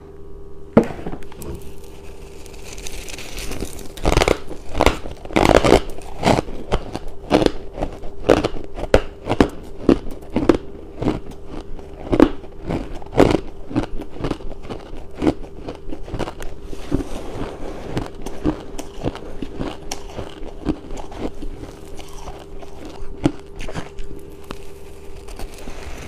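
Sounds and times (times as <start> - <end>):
person crunching ice: 1.6 - 26.0.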